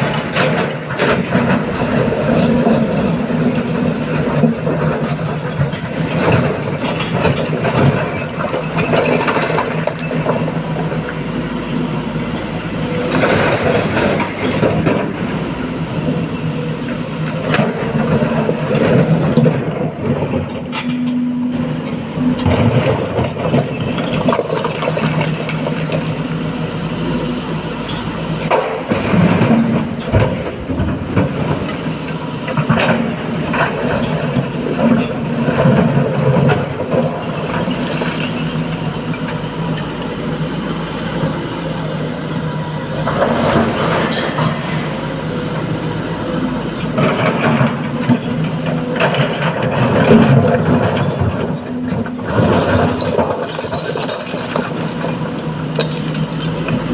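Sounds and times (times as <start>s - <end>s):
excavator clatter: 0.0s - 56.9s
excavator diesel engine working: 0.0s - 56.9s.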